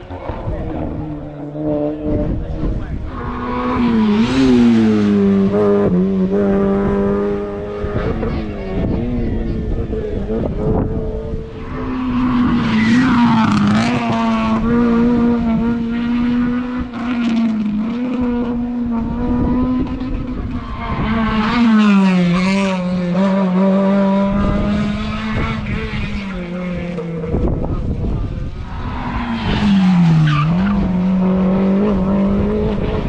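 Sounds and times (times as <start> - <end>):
racing car engine at high revs: 0.0 - 33.0.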